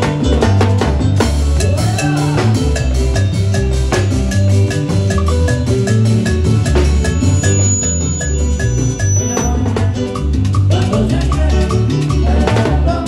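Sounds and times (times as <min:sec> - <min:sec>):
congas: 0:00.0 - 0:13.0
salsa band playing: 0:00.0 - 0:13.0.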